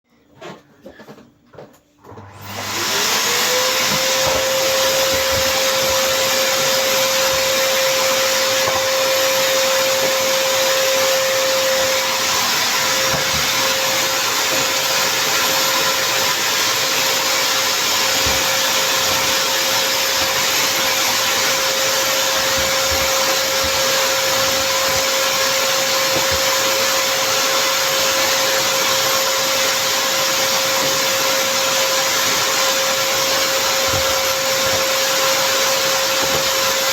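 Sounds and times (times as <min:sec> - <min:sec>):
vacuum cleaner motor whining: 0:02.0 - 0:36.9.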